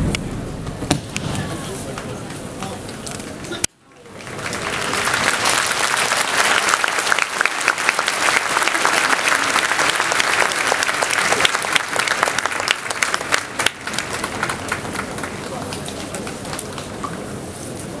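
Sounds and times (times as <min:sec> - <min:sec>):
audience applauding: 0:01.2 - 0:17.2.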